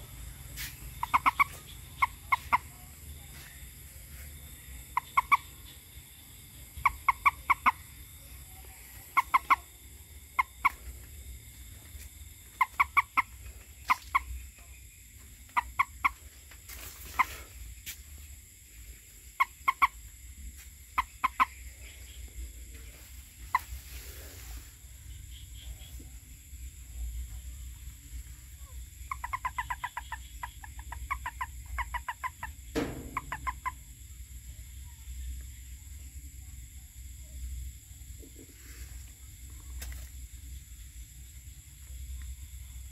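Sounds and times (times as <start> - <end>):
frog croaking: 0.0 - 18.6, 19.2 - 24.0, 25.0 - 38.5.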